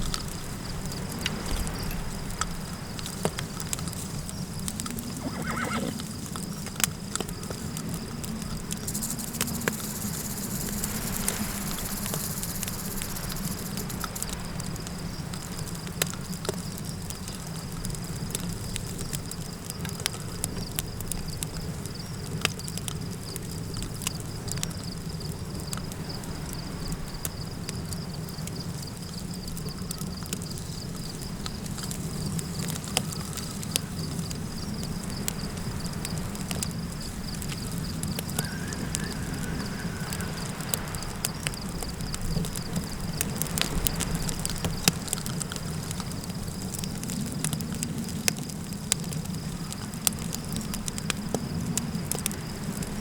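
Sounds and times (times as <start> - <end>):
campfire crackling and popping: 0.0 - 53.0
high insect trill: 0.0 - 53.0
low rumble of flames and wind: 0.0 - 53.0.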